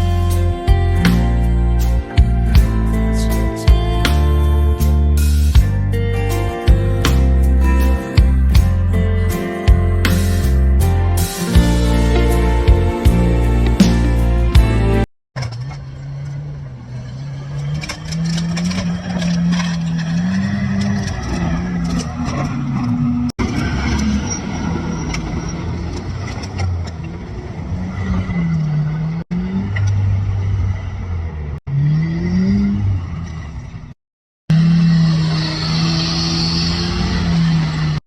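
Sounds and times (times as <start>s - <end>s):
vehicle engine revving: 0.0s - 33.9s, 34.5s - 38.0s.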